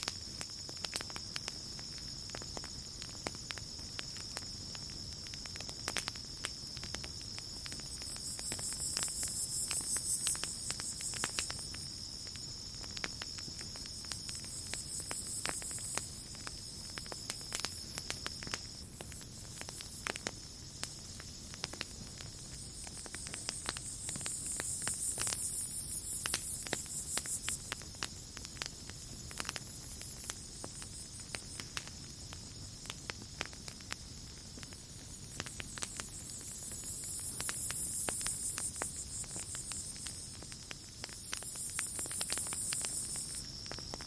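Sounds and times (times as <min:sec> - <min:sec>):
campfire crackling and popping: 0:00.0 - 0:44.0
night insects trilling: 0:00.0 - 0:44.0.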